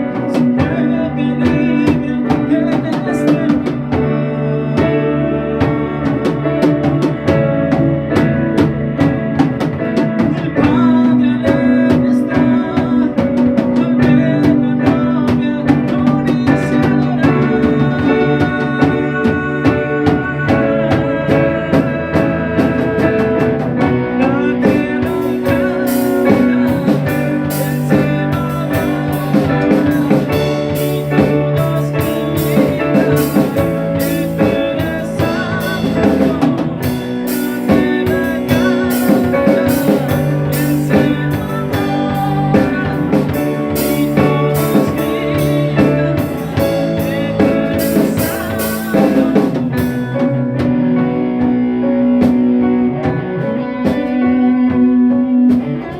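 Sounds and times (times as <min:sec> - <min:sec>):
drum kit: 0:00.0 - 0:55.9
electric guitar melody: 0:00.0 - 0:55.9.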